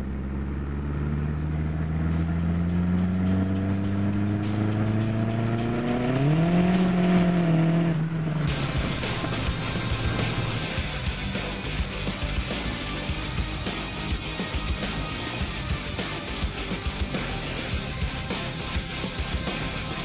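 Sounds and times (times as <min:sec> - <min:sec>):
car engine revving: 0:00.0 - 0:20.0
noisy rush: 0:00.0 - 0:20.0.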